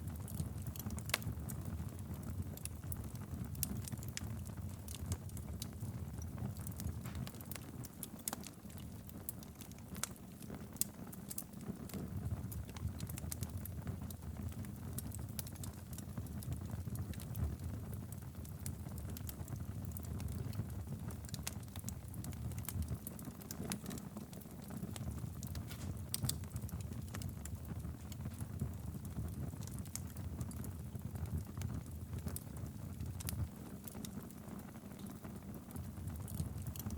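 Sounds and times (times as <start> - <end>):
fire crackling and popping: 0.0 - 36.9
rumble of flames: 0.0 - 36.9.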